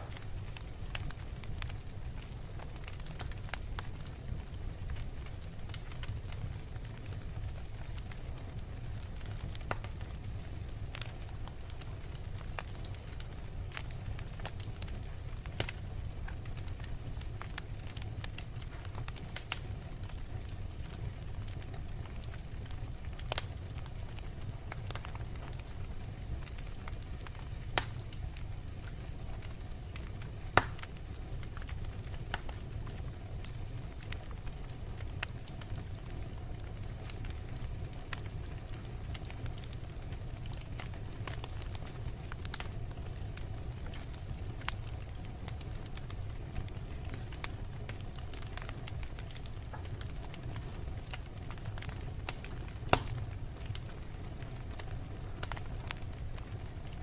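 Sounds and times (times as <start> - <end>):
wood fire burning in a fireplace: 0.0 - 57.0.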